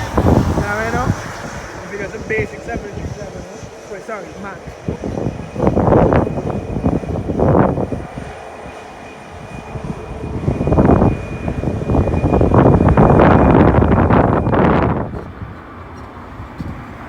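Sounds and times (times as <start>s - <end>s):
jet engines running: 0.0s - 17.0s
wind buffeting microphone: 0.0s - 17.0s.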